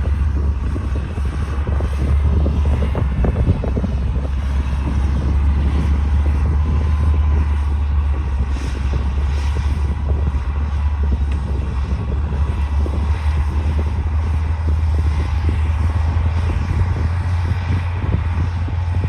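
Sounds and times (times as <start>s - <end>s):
bulldozer diesel engine droning: 0.0s - 19.0s
engine clatter: 0.0s - 19.0s.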